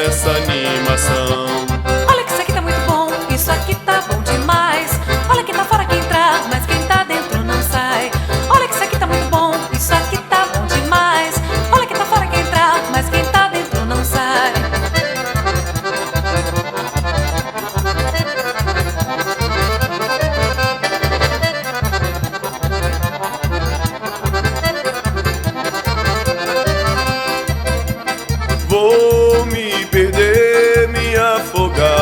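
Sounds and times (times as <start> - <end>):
accordion melody: 0.0 - 32.0.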